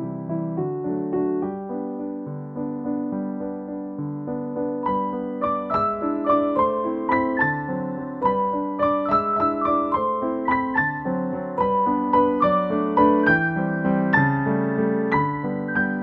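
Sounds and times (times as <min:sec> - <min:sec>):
piano melody over chords: 0:00.0 - 0:16.0.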